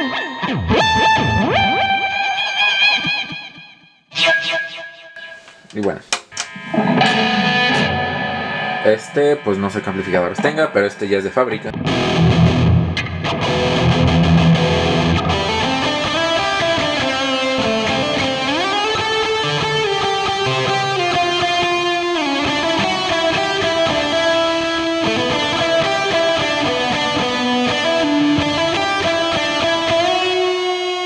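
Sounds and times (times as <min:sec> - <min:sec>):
electric guitar with effects: 0:00.0 - 0:31.0.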